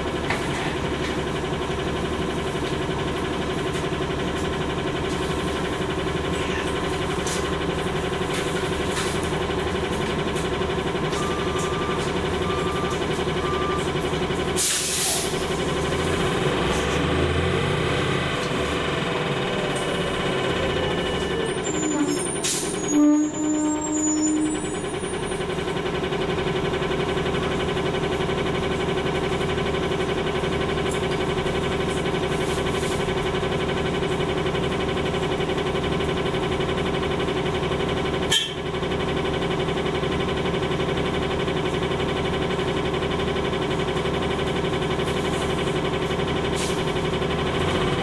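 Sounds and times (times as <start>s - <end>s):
bus engine idling: 0.0s - 48.0s.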